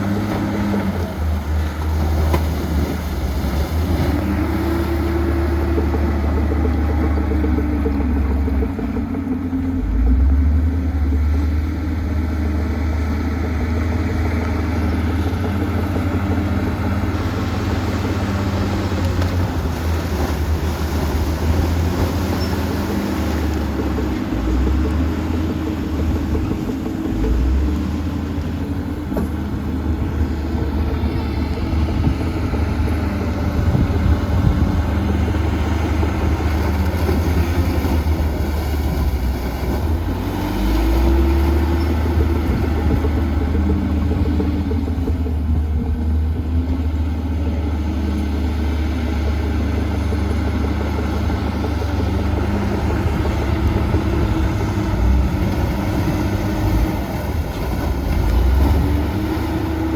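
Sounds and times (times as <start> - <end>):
heavy diesel machinery drone: 0.0 - 59.9.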